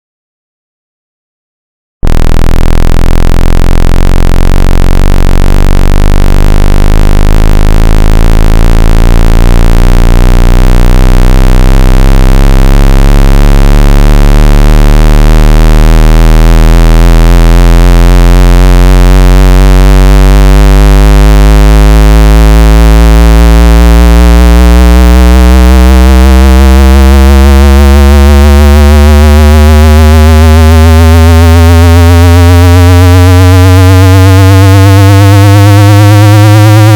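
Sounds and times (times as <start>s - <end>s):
deep bass hum: 2.0s - 36.9s
rising synthesized tones: 3.2s - 36.9s.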